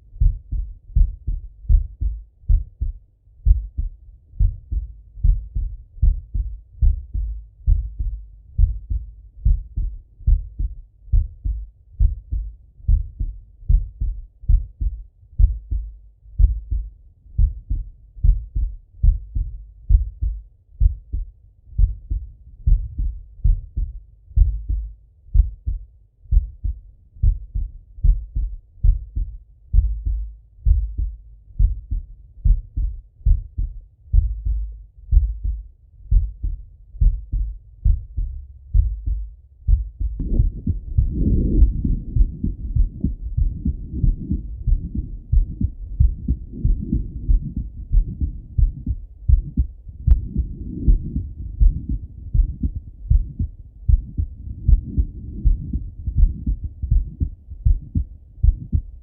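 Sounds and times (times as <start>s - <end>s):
heartbeat through stethoscope: 0.0s - 59.0s.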